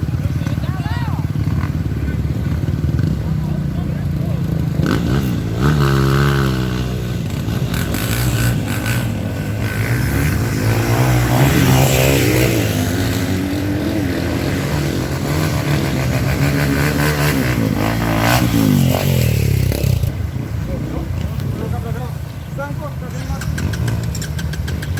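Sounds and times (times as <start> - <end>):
motorcycle engines revving: 0.0 - 24.9.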